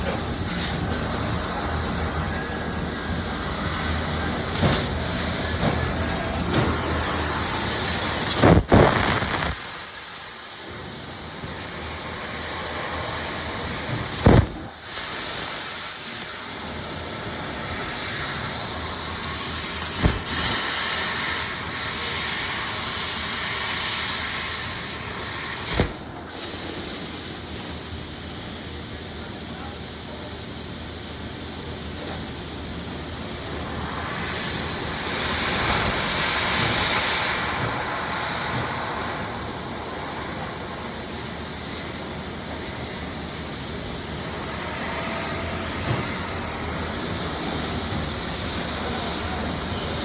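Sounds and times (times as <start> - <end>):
laser cutter hissing: 0.0 - 50.0.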